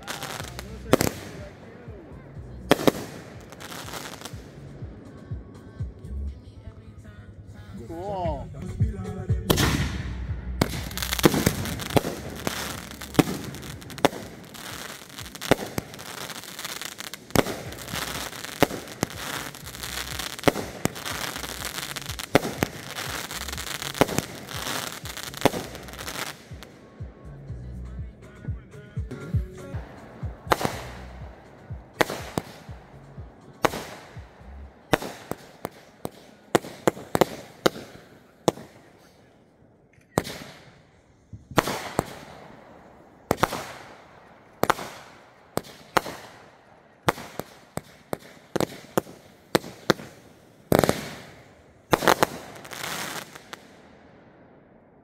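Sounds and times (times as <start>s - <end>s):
firework bangs: 0.0s - 6.1s, 6.7s - 27.3s, 28.0s - 55.0s
firework crackle: 0.0s - 27.3s, 28.0s - 54.1s.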